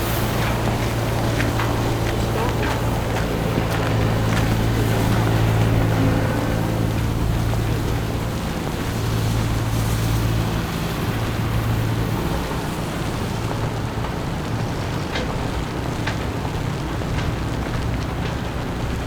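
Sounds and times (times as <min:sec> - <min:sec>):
traffic and slush hiss: 0:00.0 - 0:19.0
vehicle engine humming: 0:00.0 - 0:19.0.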